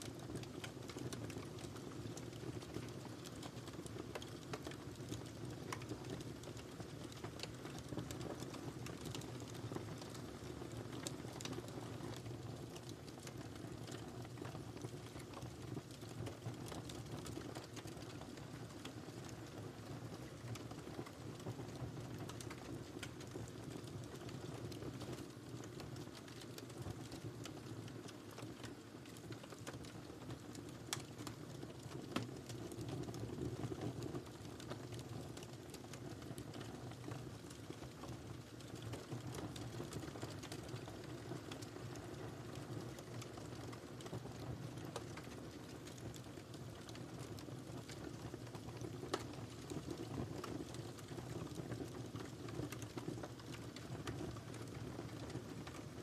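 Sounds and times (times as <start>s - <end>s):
fire crackles and pops: 0.0s - 56.0s
low rumble of fire: 0.0s - 56.0s.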